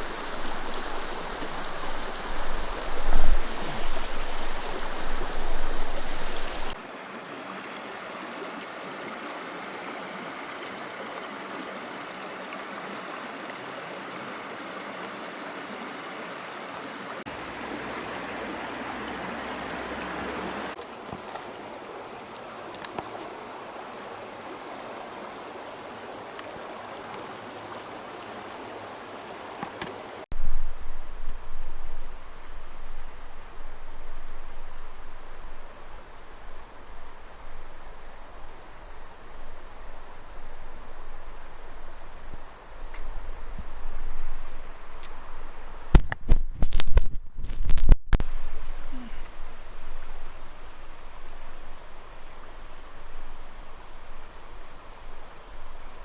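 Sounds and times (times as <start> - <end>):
rushing mountain stream: 0.0 - 56.0.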